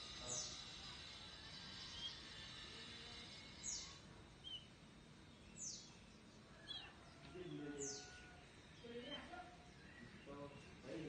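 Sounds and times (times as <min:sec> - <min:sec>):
soft bird chirps: 0:00.0 - 0:11.0.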